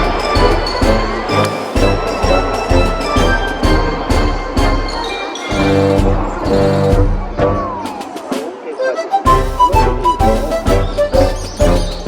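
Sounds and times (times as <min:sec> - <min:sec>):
music with steady beat: 0:00.0 - 0:08.6, 0:09.2 - 0:12.0.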